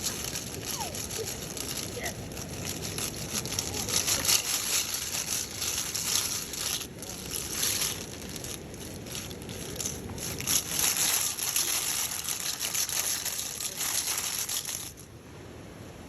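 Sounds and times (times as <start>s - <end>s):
water flowing and splashing: 0.0s - 15.0s
crackling rustle: 0.0s - 15.1s.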